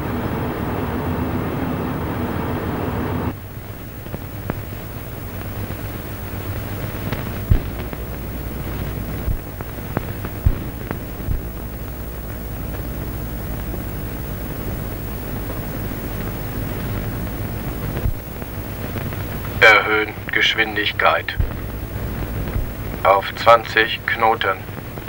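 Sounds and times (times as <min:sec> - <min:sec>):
low steady hum: 0:00.0 - 0:25.0
ship rushing rumble: 0:00.0 - 0:25.0.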